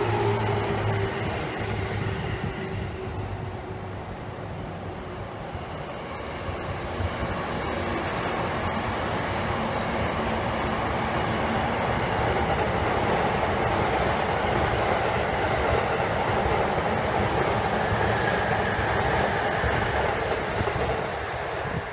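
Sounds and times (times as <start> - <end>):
electric trains passing: 0.0 - 21.9.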